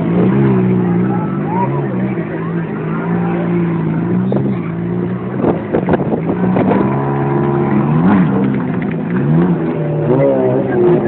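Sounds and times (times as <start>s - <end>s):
motorcycle engine running: 0.0s - 11.0s
sharp engine crackles: 0.0s - 11.0s.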